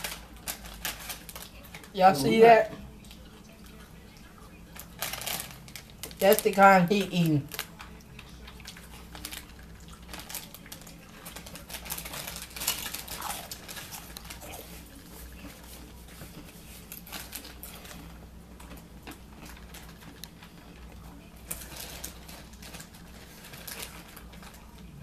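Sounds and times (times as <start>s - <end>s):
chips crunching: 0.0s - 2.5s, 4.7s - 25.0s
chip bag crinkling: 0.0s - 3.3s, 4.6s - 25.0s.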